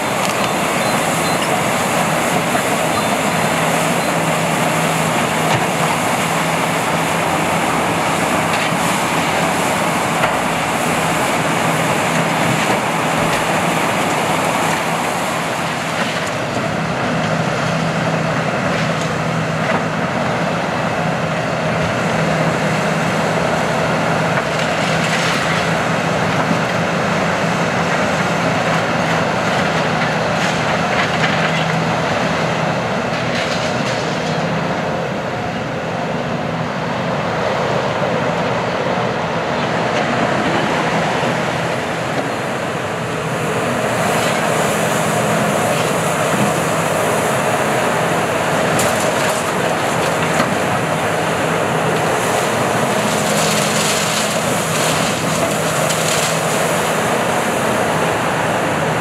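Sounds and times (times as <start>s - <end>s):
excavator diesel engine humming: 0.0s - 59.0s.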